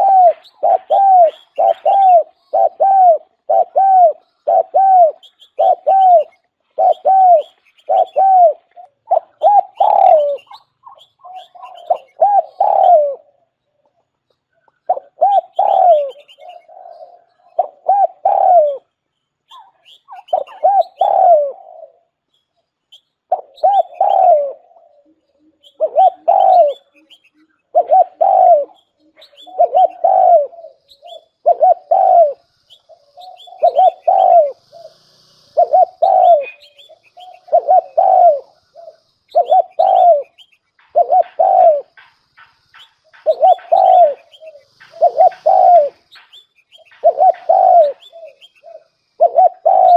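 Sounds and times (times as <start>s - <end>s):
dove cooing: 0.0s - 22.2s, 23.3s - 49.9s
small birds chirping faintly: 0.0s - 49.9s.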